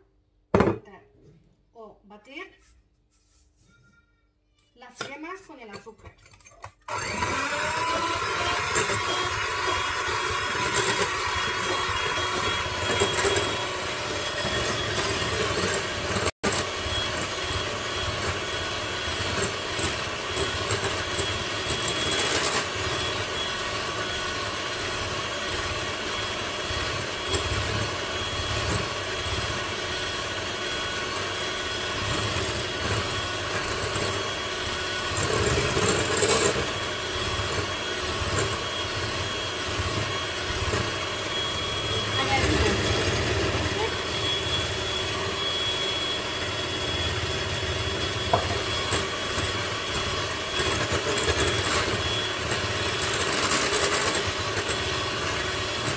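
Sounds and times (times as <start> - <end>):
electric hand mixer whining: 6.3 - 55.9.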